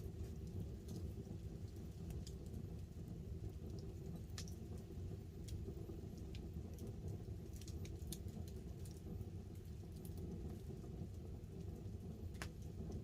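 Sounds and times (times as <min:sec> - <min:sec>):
campfire crackling and popping: 0:00.0 - 0:13.0
light rain on a tarp: 0:00.0 - 0:13.0.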